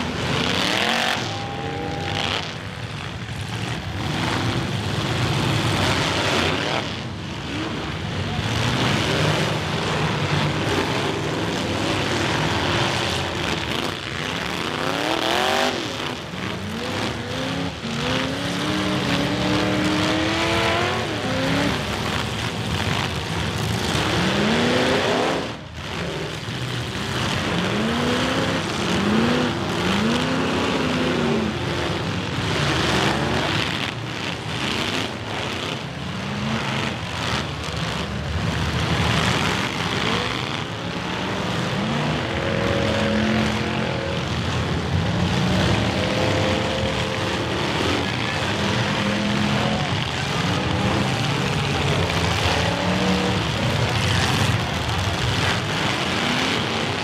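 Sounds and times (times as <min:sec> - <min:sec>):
car engines revving hard: 0:00.0 - 0:57.0
din of engines and tyres: 0:00.0 - 0:57.0.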